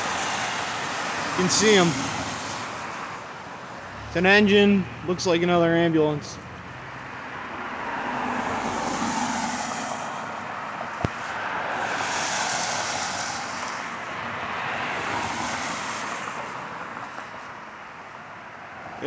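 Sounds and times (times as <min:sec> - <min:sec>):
street traffic passing: 0:00.0 - 0:19.0.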